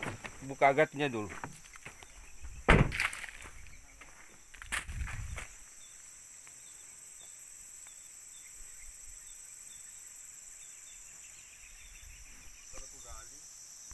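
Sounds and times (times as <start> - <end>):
insects buzzing: 0.0 - 13.9.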